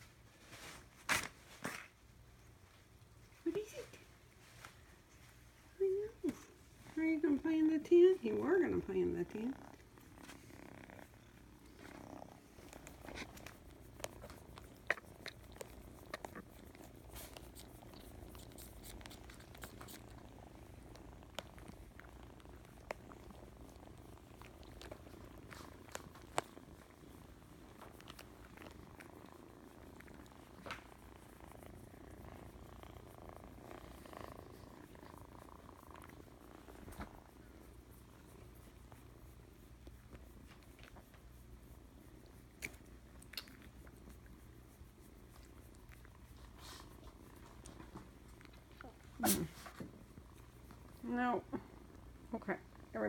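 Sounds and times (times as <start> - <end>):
kitten purring: 1.7 - 53.0.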